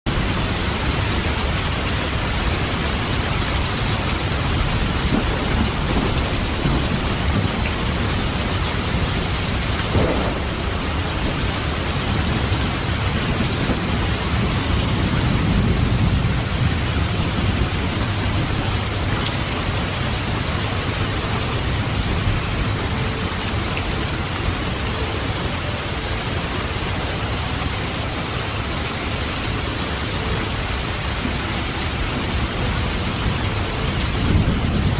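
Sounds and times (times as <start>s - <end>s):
heavy rain: 0.0s - 34.9s
thunder rumble: 0.1s - 25.5s, 27.2s - 34.9s.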